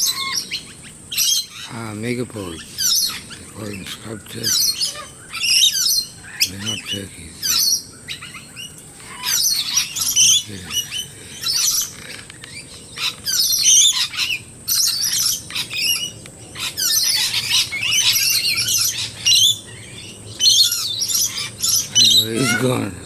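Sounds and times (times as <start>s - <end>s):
birds chattering and squawking: 0.0s - 23.0s.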